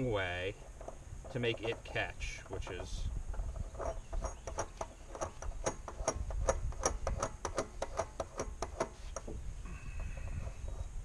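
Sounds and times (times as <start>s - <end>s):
rapid plastic clicking: 0.6s - 9.4s.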